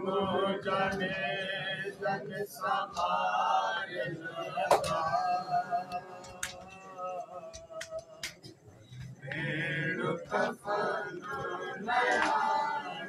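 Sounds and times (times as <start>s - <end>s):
men chanting: 0.0s - 8.2s, 9.2s - 13.0s.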